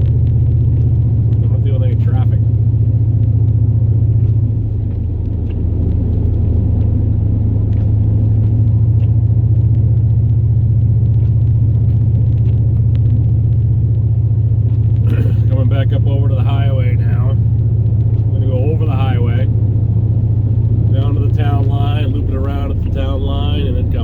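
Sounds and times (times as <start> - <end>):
truck engine droning inside cab: 0.0 - 24.0.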